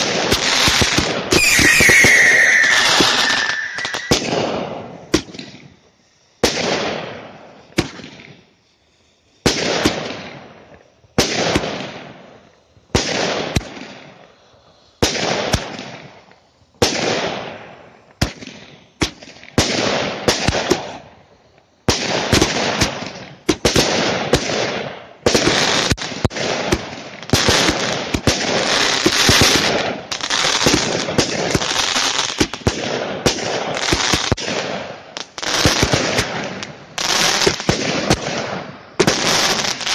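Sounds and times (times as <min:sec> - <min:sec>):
fireworks barrage: 0:00.0 - 0:08.5, 0:09.4 - 0:14.2, 0:15.0 - 0:21.2, 0:21.8 - 0:39.9
fireworks bangs with hiss: 0:00.0 - 0:39.9.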